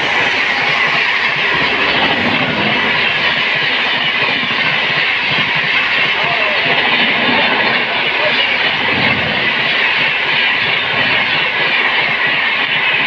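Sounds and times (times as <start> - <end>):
train running on track: 0.0 - 13.0.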